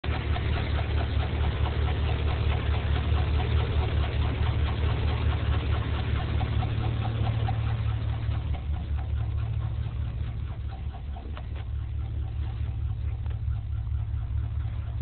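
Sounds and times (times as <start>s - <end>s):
engine idling: 0.0s - 15.0s
light ticking: 0.1s - 15.0s.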